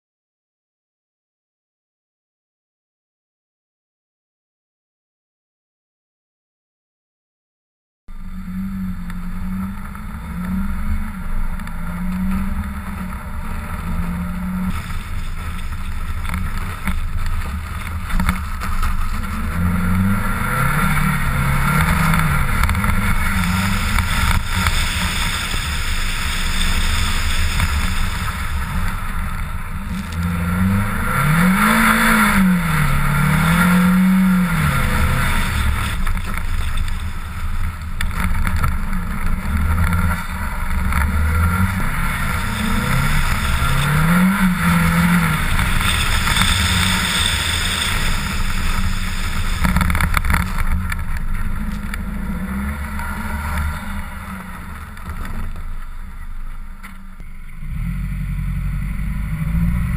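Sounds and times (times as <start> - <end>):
car engine revving: 8.1 - 59.9
steady rushing noise: 8.2 - 56.6.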